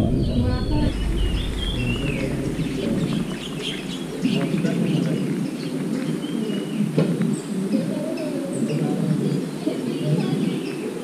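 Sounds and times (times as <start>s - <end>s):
birds chirping: 0.0s - 11.0s
low background noise: 0.0s - 11.0s.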